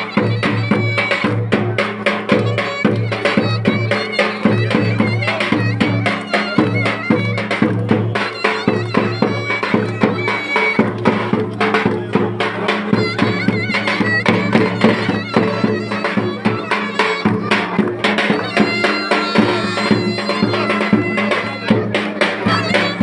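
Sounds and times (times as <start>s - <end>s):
drum beats: 0.0s - 23.0s
fast ornamented folk melody: 0.0s - 23.0s.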